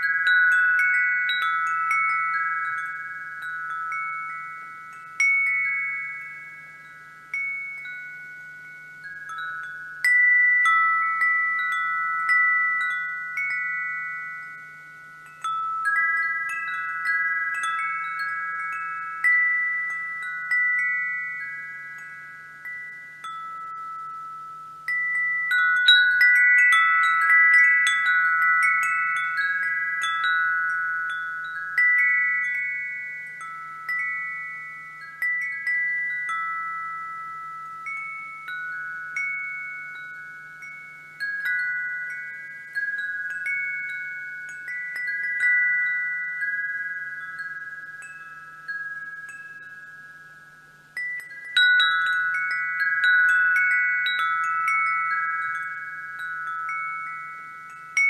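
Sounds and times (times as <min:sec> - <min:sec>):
wind chimes ringing: 0:00.0 - 0:58.0.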